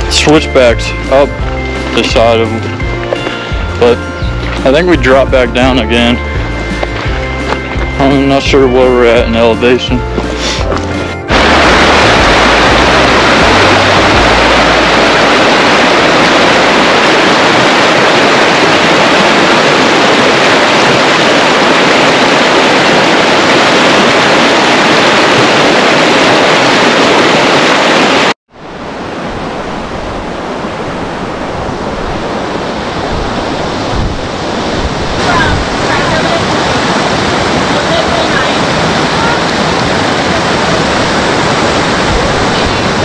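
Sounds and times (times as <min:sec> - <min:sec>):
creek rushing over rocks: 0:00.0 - 0:43.0.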